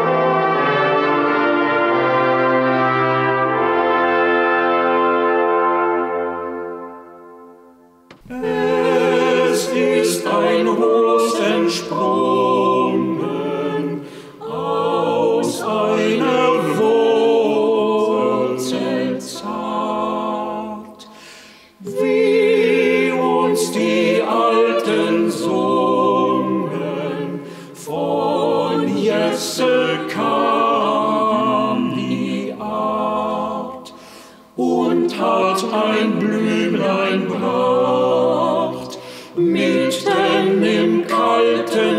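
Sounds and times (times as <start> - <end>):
a cappella vocal quartet singing: 8.1 - 41.9.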